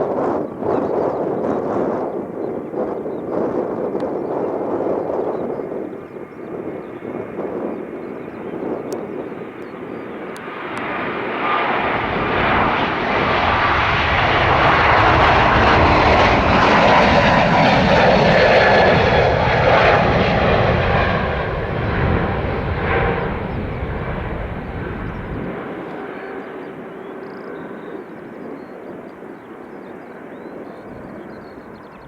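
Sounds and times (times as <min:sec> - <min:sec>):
jet engines roaring at takeoff: 0:00.0 - 0:32.0.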